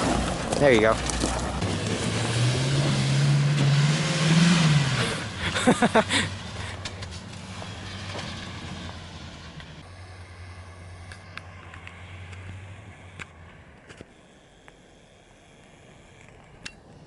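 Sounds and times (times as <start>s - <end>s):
truck engine revving and rumbling: 0.0s - 14.1s.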